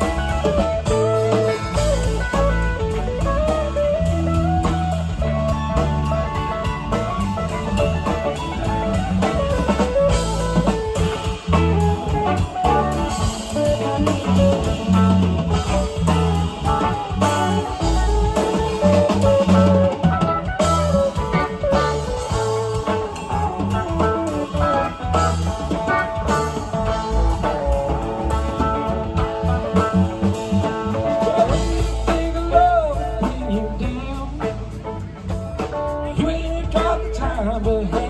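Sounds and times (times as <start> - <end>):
bass guitar: 0.0 - 38.0
drum kit: 0.0 - 38.0
electric guitar lead: 0.0 - 38.0.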